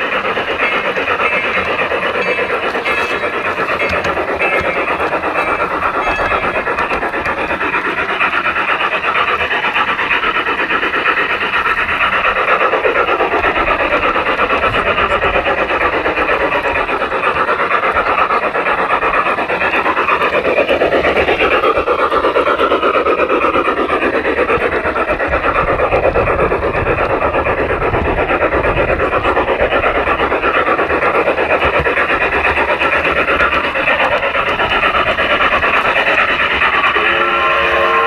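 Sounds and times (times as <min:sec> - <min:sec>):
model train wheels rattling: 0:00.0 - 0:38.0.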